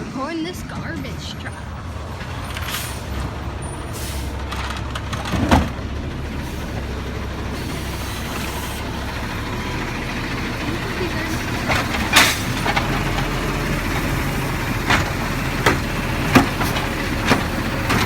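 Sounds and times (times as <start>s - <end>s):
garbage truck engine running: 0.0s - 18.0s.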